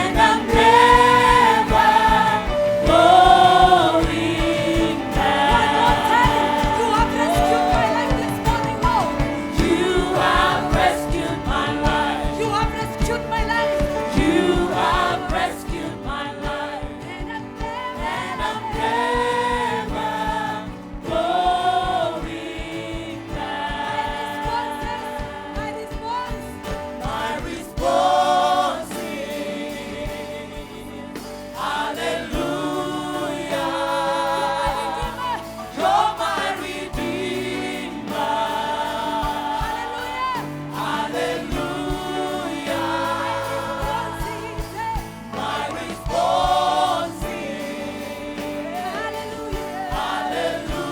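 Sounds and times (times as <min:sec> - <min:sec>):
band playing with a beat: 0:00.0 - 0:50.9
voices singing gospel music: 0:00.0 - 0:50.9.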